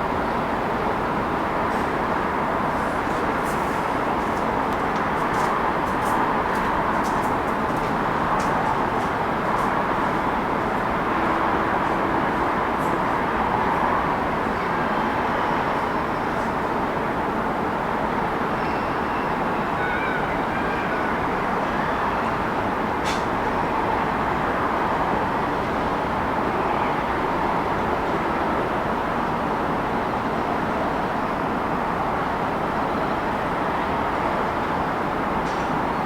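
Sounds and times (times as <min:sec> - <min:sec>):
city traffic rush: 0:00.0 - 0:18.6, 0:20.2 - 0:36.0.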